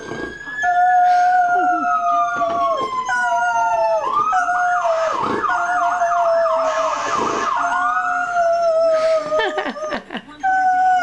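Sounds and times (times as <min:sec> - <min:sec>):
siren wailing: 0:00.0 - 0:10.0
dog howling: 0:00.0 - 0:11.0.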